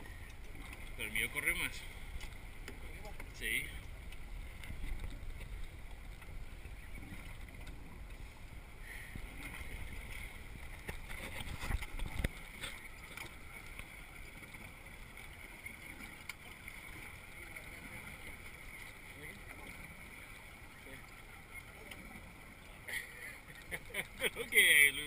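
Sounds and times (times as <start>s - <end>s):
sea water against boat: 0.0s - 25.0s.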